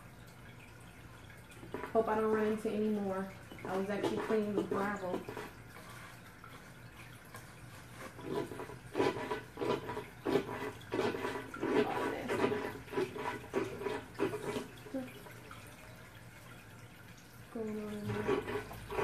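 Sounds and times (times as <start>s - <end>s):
gravel vacuum gurgling water: 0.0s - 19.0s.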